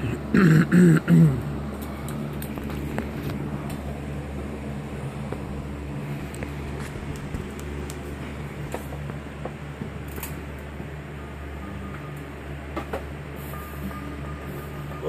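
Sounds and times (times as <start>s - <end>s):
steady low hum with tones: 0.0s - 15.0s.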